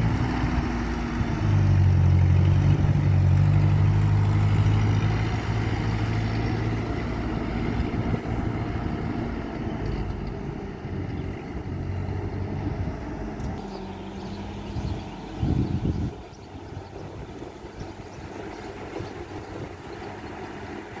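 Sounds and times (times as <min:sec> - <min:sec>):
tractor engine humming: 0:00.0 - 0:21.0.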